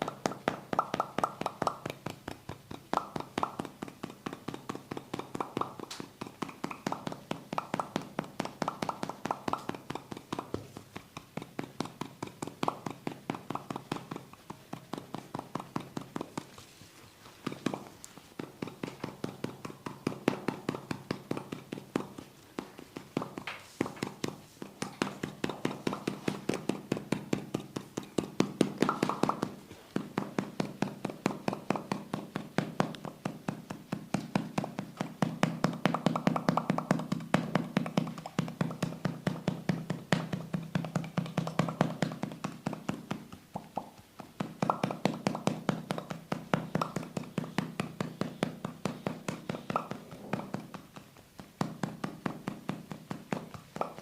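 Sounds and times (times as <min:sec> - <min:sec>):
hands tapping on body: 0:00.0 - 0:54.0.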